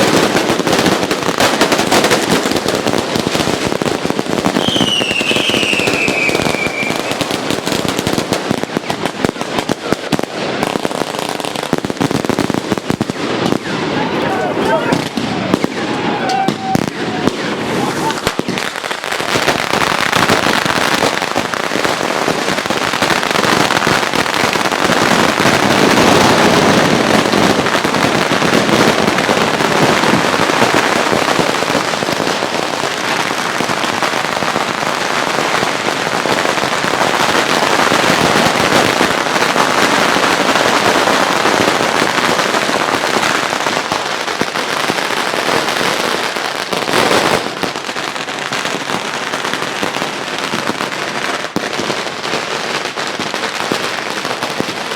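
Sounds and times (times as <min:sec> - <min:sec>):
fireworks banging and crackling: 0:00.0 - 0:54.9.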